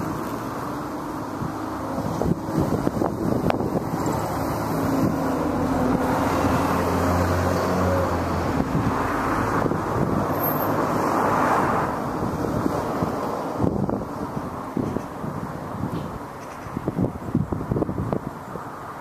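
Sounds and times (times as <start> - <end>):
rush of traffic: 0.0 - 19.0
vehicle engine drone: 0.0 - 19.0.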